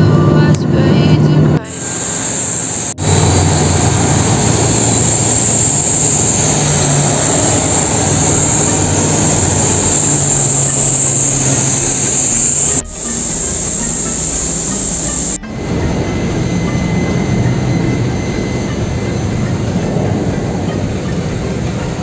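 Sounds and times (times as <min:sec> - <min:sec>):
bus engine and road rumble: 0:00.0 - 0:22.0
constant hiss: 0:01.7 - 0:22.0.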